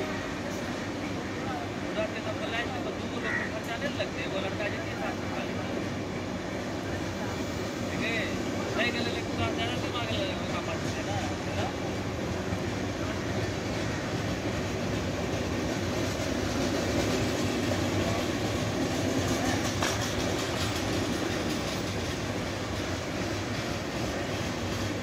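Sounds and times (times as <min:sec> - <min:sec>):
train coaches passing: 0:00.0 - 0:25.0
wheel-on-rail noise: 0:04.1 - 0:25.0.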